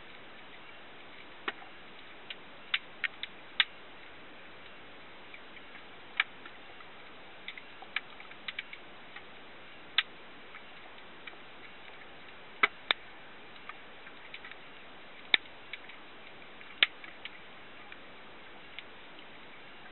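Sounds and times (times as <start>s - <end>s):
sharp underwater clicks: 0.0s - 19.9s
steady hiss: 0.0s - 19.9s.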